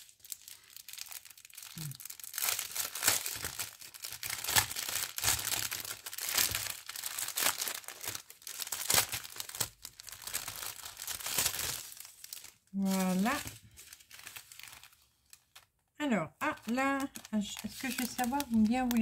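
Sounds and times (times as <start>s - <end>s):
plastic bags crinkling: 0.0s - 15.8s, 16.4s - 19.0s.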